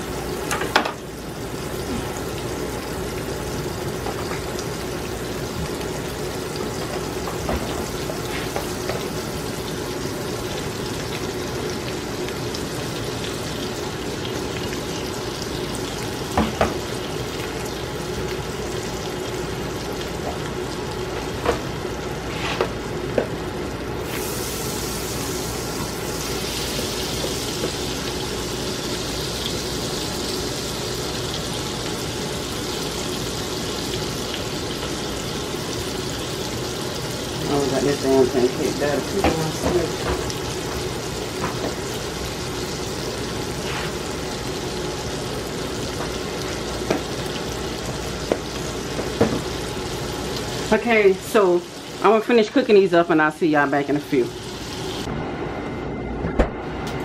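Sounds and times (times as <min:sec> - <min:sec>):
batter sizzling in frying pan: 0:00.0 - 0:55.1.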